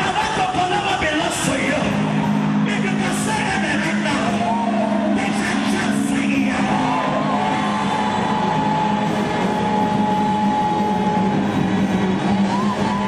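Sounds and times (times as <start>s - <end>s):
dense musical background: 0.0s - 13.0s.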